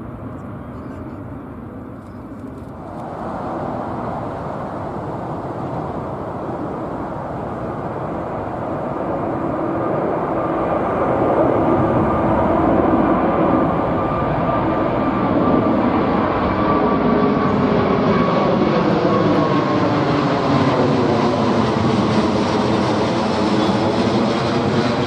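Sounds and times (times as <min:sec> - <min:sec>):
jet engine whine: 0:00.0 - 0:25.0
jet engines rushing: 0:00.0 - 0:25.0.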